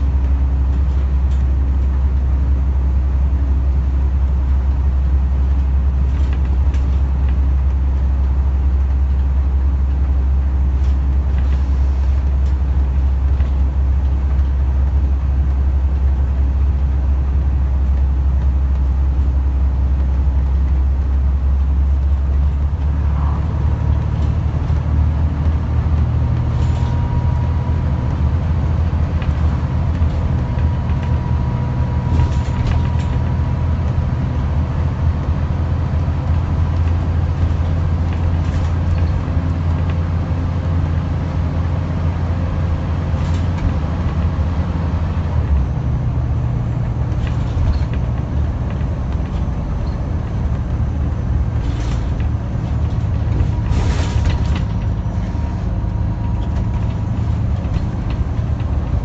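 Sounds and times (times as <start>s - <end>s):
bus diesel engine droning: 0.0s - 59.0s.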